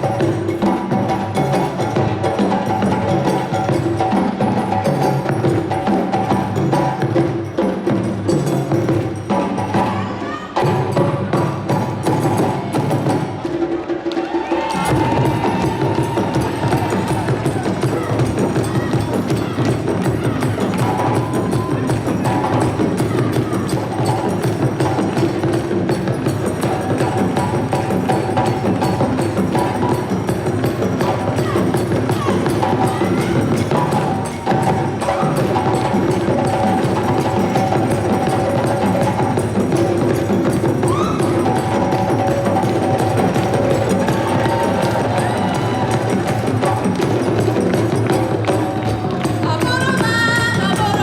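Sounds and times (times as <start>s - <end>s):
drums playing fast rhythm: 0.0s - 51.0s
percussion ensemble music: 0.0s - 51.0s.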